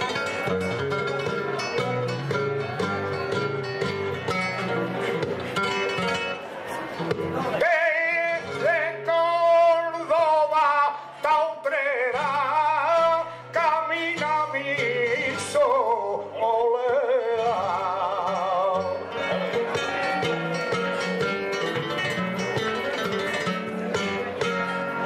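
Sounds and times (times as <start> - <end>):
man singing flamenco: 0.0 - 6.2, 7.0 - 25.0
flamenco guitar: 0.0 - 25.0.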